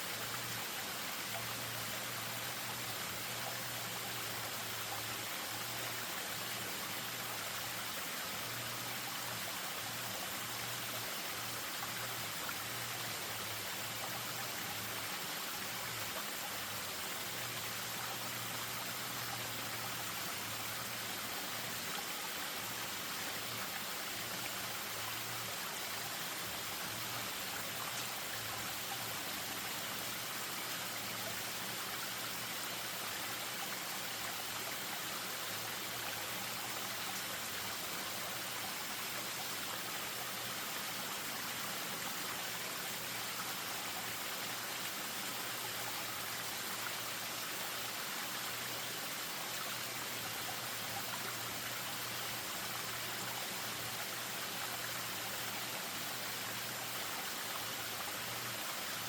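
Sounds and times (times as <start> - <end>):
stream over small waterfall: 0.0 - 59.0.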